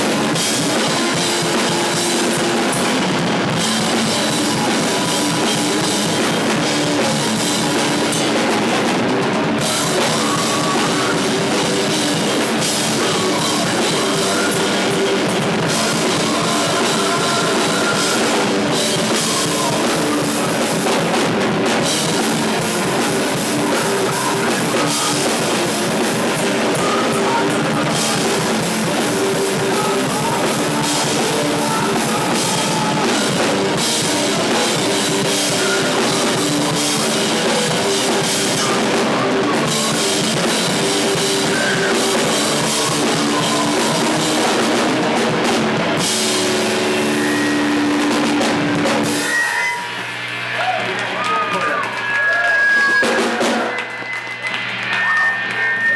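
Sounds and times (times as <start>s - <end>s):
distorted electric guitar: 0.0s - 55.9s
drum kit playing: 0.0s - 55.9s.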